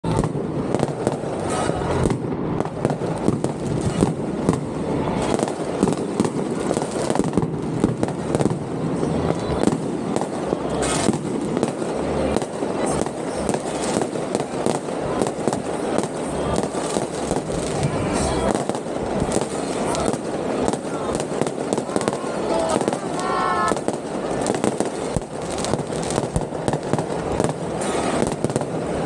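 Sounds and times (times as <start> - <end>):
firecrackers going off: 0.0 - 29.0.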